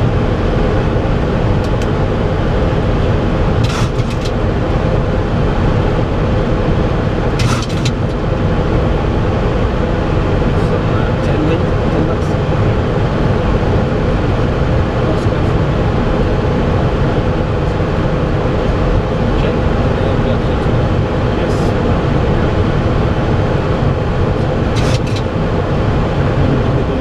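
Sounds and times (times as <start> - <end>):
aircraft engines humming: 0.0 - 27.0.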